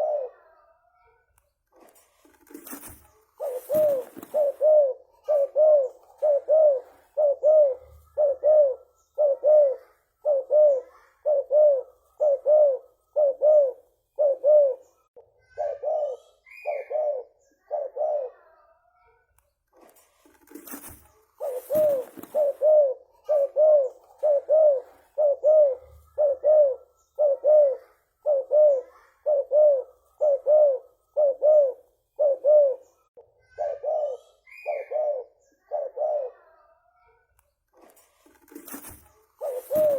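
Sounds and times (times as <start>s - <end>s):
dove cooing: 0.0s - 0.6s, 2.4s - 18.6s, 20.4s - 36.6s, 38.4s - 39.9s.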